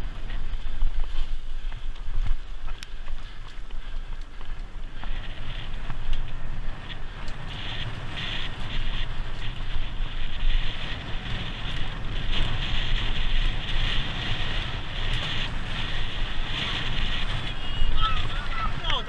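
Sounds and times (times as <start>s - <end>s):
bicycle riding over bumpy ground: 0.0s - 19.0s
wind buffeting microphone: 0.0s - 19.0s.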